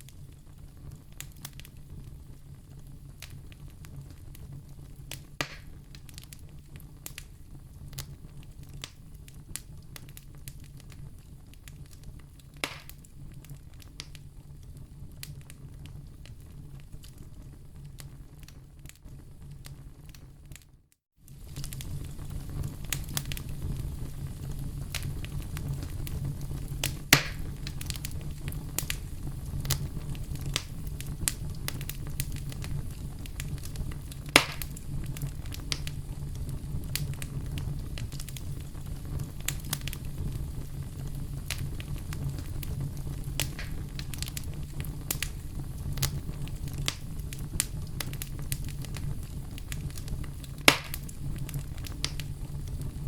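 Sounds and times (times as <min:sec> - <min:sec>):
campfire crackling: 0:00.0 - 0:20.6, 0:21.2 - 0:53.0
loud fire snaps: 0:00.0 - 0:53.0.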